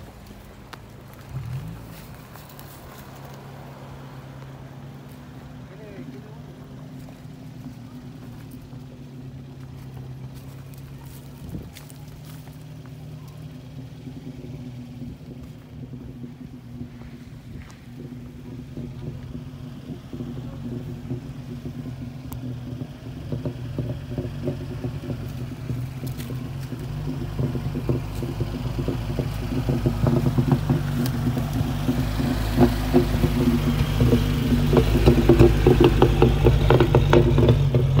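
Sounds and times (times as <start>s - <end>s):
tyres crunching over dirt and rocks: 0.0s - 22.3s, 23.9s - 38.0s
pickup engine running: 0.0s - 38.0s.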